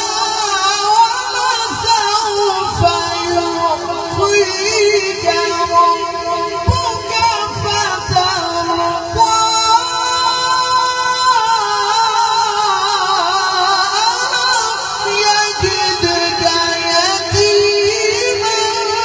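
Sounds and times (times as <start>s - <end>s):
man chanting recitation: 0.0s - 19.0s.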